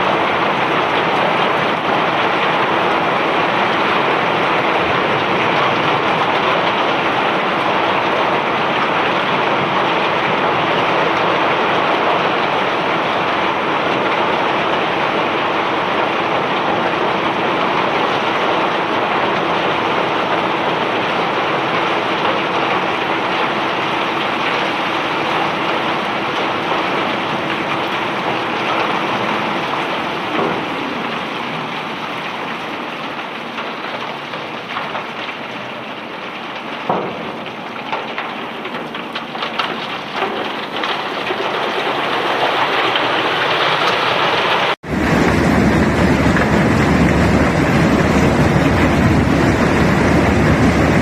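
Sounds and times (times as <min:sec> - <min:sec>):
rock pouring off conveyor: 0:00.0 - 0:51.0.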